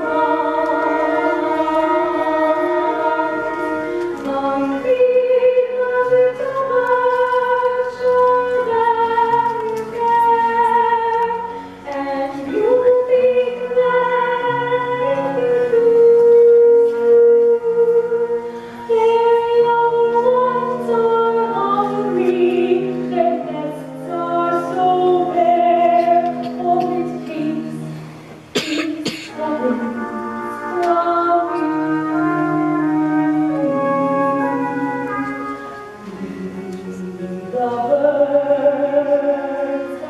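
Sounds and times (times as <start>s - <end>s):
sustained instrumental accompaniment: 0.0s - 40.0s
woman singing a slow ballad: 4.2s - 27.8s, 28.8s - 35.2s, 36.0s - 40.0s.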